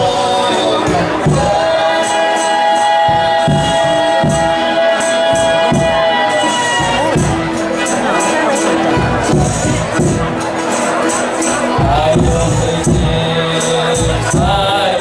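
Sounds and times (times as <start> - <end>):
irregular drum beats: 0.0 - 15.0.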